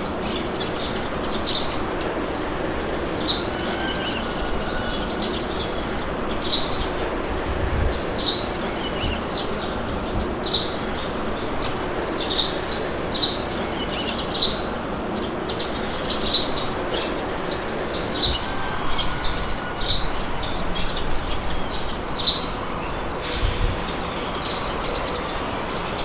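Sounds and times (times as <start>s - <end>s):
birds chirping: 0.0s - 26.0s
wind blowing: 0.0s - 26.0s.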